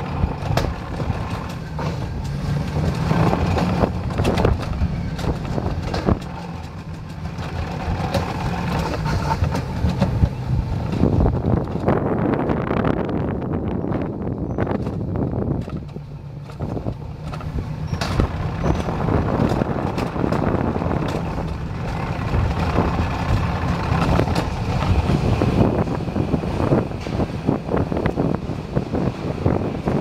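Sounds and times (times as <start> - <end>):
rattles and clicks: 0.0 - 12.5, 13.8 - 30.0
coaster wheels rumbling on track: 0.0 - 30.0.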